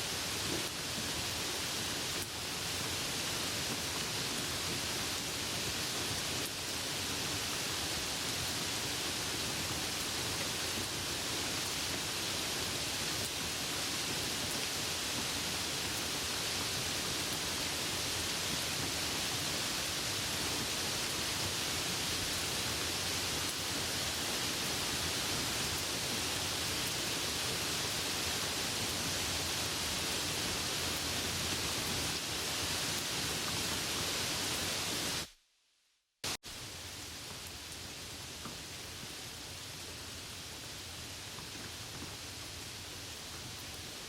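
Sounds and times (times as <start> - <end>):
steady rain: 0.0 - 35.4, 36.2 - 44.0.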